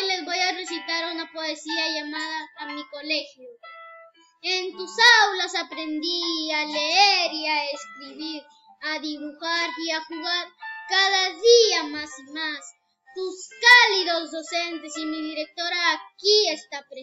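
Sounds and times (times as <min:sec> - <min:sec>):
boy singing unaccompanied: 0:00.0 - 0:03.5, 0:04.4 - 0:17.0.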